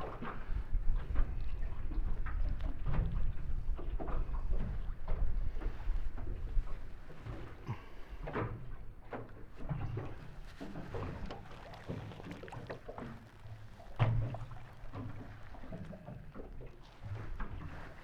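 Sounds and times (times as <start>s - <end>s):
water lapping against hull: 0.0s - 18.0s.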